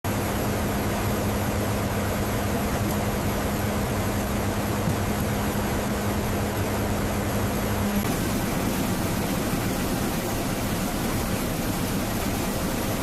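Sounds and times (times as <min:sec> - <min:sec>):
rushing air in cabin: 0:00.0 - 0:13.0
constant low hum: 0:00.1 - 0:13.0
plane engine drone: 0:00.1 - 0:13.0.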